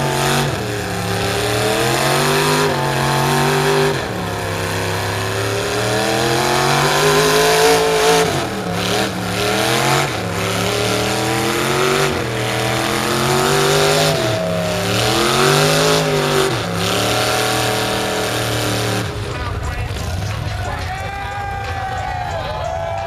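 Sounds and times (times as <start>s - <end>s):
truck engine revving under load: 0.0s - 23.0s.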